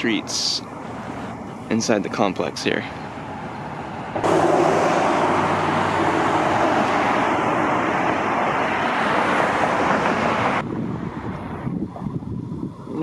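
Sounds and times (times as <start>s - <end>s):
tyre and road noise: 0.0s - 13.0s
vehicle engine hum: 0.0s - 13.0s.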